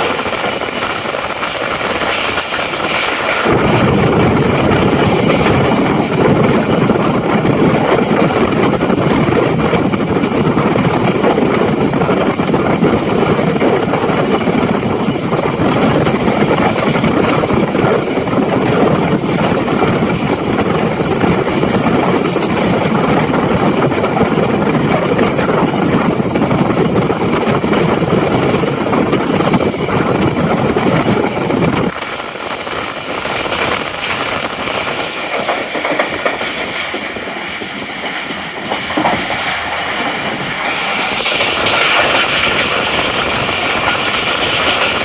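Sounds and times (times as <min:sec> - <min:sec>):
train carriage rumbling on track: 0:00.0 - 0:45.0.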